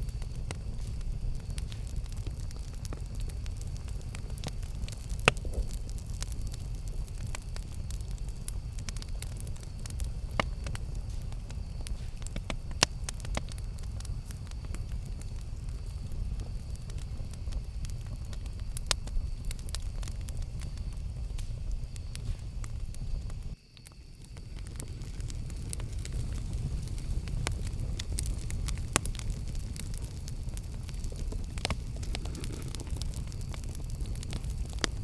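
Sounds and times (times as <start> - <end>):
campfire flames rumbling: 0.0 - 35.0
fire crackling: 0.0 - 35.0
loud fire pops: 0.0 - 35.0.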